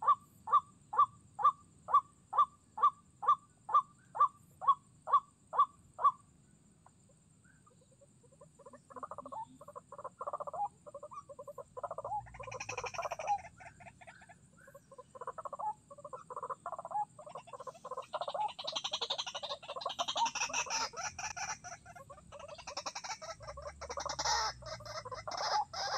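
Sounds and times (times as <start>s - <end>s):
waterhen croaking calls: 0.0s - 6.2s, 7.7s - 25.9s.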